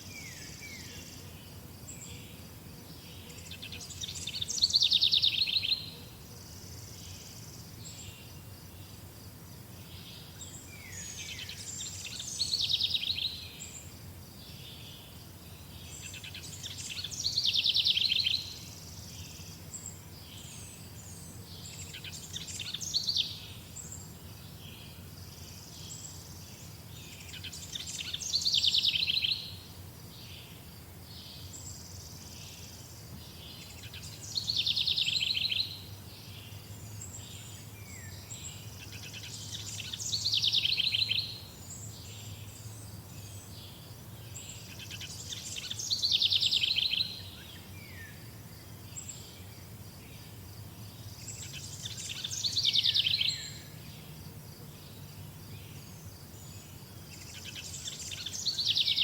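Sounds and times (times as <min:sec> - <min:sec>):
songbird singing high song: 0:00.0 - 0:59.0.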